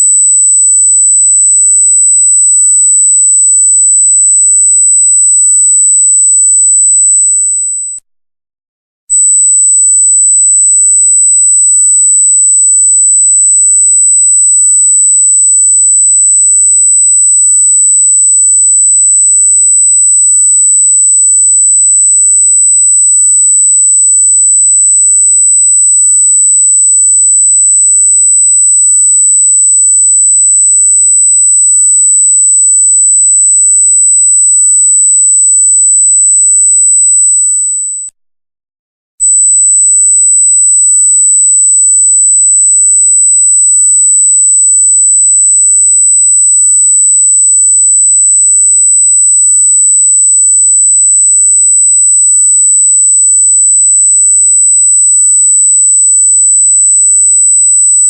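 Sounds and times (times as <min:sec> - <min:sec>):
high-pitched electronic sine tone: 0:00.0 - 0:08.0, 0:09.1 - 0:38.2, 0:39.2 - 0:58.0.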